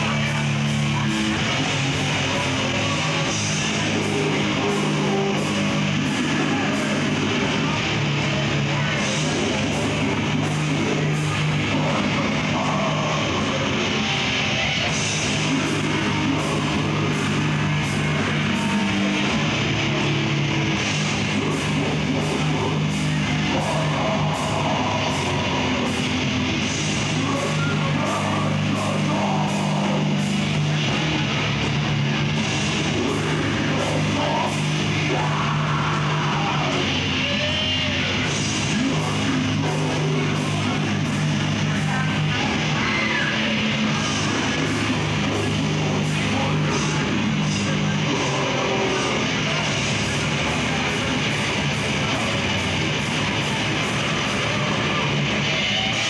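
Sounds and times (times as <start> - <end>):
death metal band playing live: 0.0 - 56.0.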